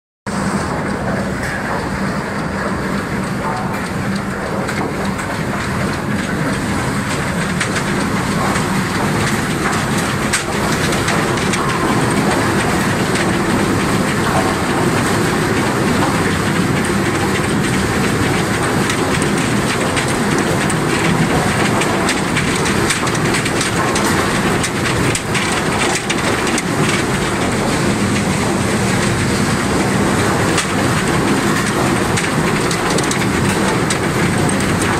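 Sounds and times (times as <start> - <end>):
machine hum: 0.3 - 34.9
logs knocking and clattering: 3.5 - 34.9.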